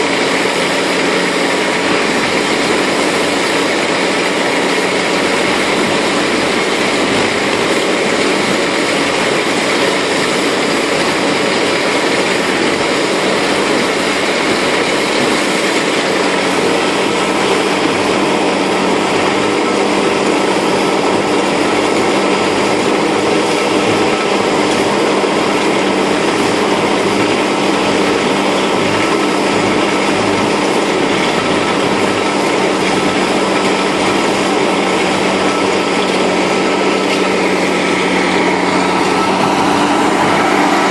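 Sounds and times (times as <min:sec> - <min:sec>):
slurry rushing: 0:00.0 - 0:40.9
tractor engine and driveline hum: 0:00.0 - 0:40.9.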